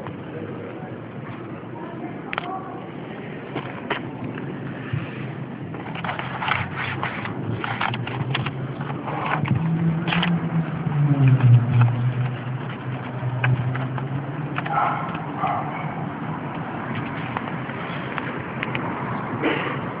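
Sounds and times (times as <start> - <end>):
low engine hum: 2.6 - 20.0.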